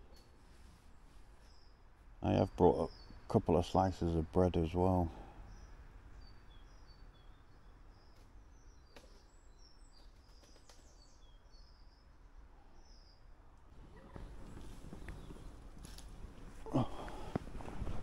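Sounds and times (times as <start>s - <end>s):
outdoor background hush: 0.0s - 18.0s.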